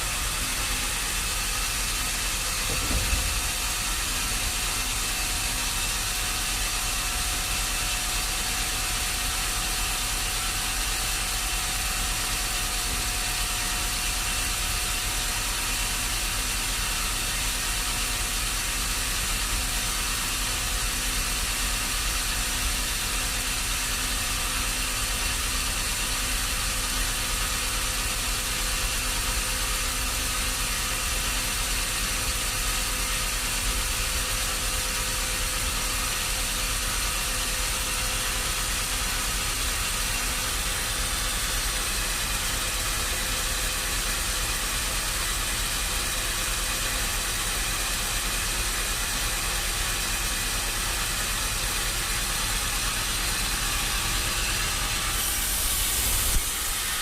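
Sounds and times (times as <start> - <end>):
machine hiss and hum: 0.0 - 57.0.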